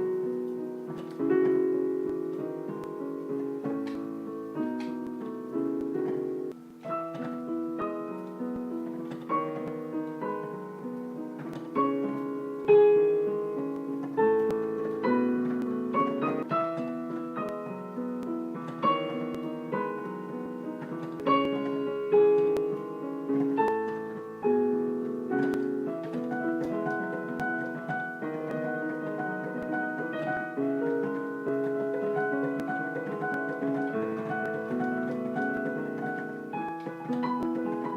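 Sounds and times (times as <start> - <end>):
slow gentle piano music: 0.0 - 37.9.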